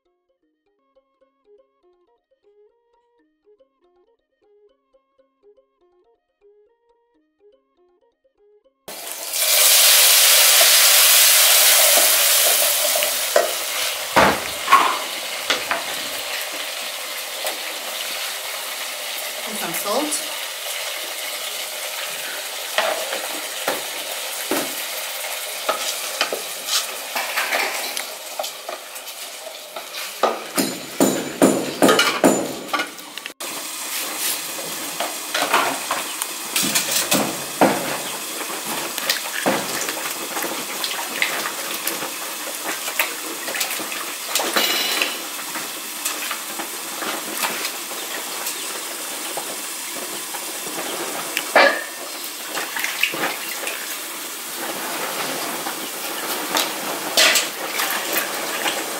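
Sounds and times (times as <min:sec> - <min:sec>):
sizzling hiss from pot: 0:08.9 - 0:31.0, 0:33.3 - 0:58.9
pots and utensils clinking: 0:08.9 - 0:33.2, 0:33.9 - 0:58.9.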